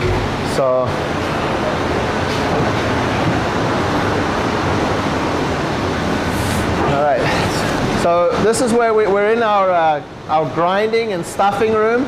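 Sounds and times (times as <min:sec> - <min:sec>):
machinery rushing hum: 0:00.0 - 0:12.0.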